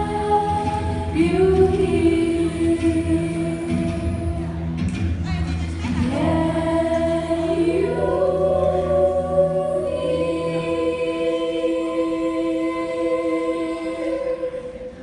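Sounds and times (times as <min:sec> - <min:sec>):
choir singing in harmony: 0:00.0 - 0:04.8, 0:05.8 - 0:15.0.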